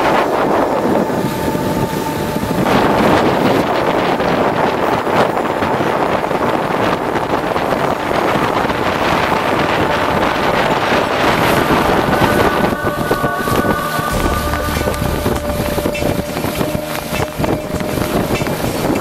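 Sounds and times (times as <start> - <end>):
water rushing at hull: 0.0 - 19.0
wind buffeting microphone: 0.0 - 19.0.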